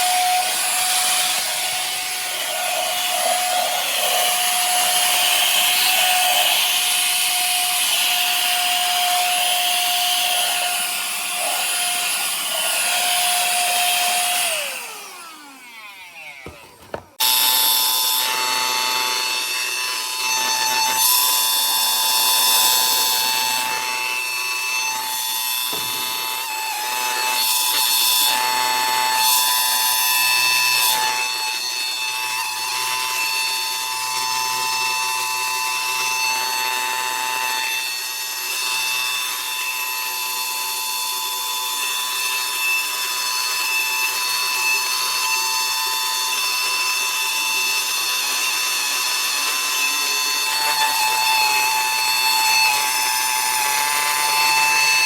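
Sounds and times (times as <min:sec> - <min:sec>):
handheld vacuum motor whine: 0:00.0 - 0:55.0.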